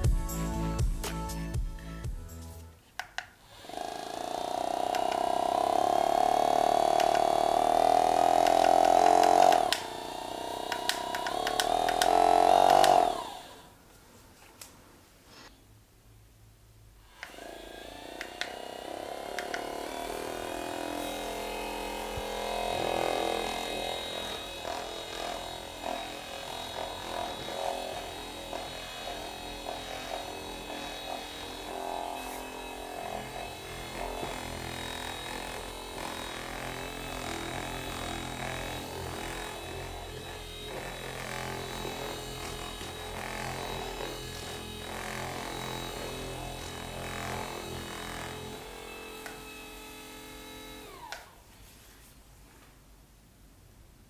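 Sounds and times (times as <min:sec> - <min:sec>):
massage gun motor whirring: 0:03.4 - 0:13.7, 0:17.0 - 0:51.4.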